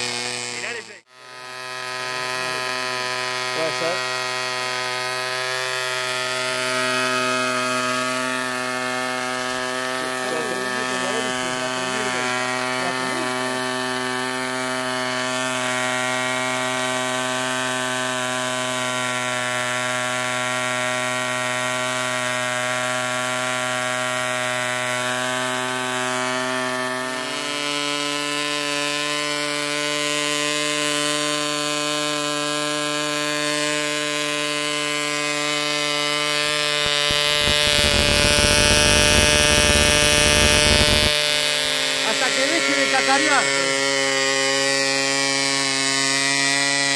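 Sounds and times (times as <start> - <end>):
model aircraft engine buzzing: 0.0 - 46.9.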